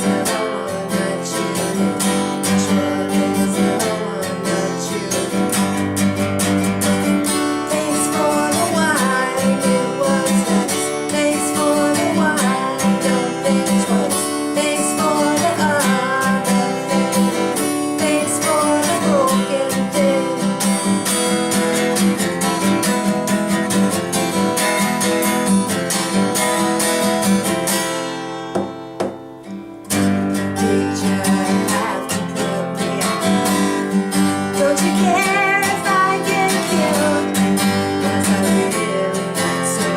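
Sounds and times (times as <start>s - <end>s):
person singing: 0.0s - 22.9s, 29.9s - 39.9s
strummed acoustic guitar: 0.0s - 39.9s.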